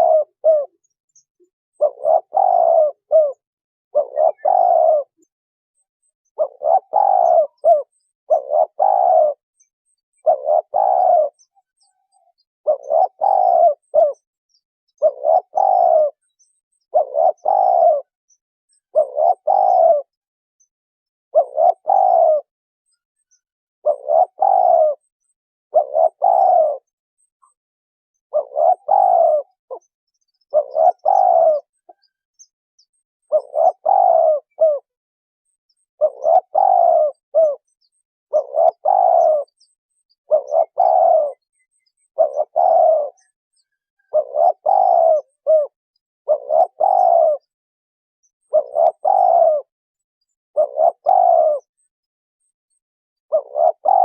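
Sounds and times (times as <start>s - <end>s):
dove cooing: 0.0s - 18.2s, 18.8s - 20.2s, 21.3s - 22.5s, 23.8s - 27.6s, 28.3s - 32.2s, 32.8s - 35.0s, 35.8s - 47.6s, 48.4s - 49.7s, 50.5s - 51.8s, 53.2s - 54.0s.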